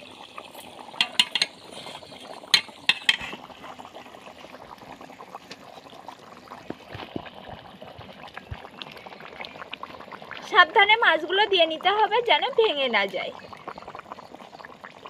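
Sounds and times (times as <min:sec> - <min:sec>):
curry boiling in a pan: 0:00.0 - 0:15.0.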